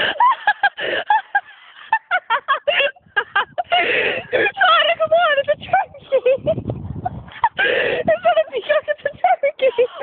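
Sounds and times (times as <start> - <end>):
young women laughing and shrieking: 0.0 - 10.0.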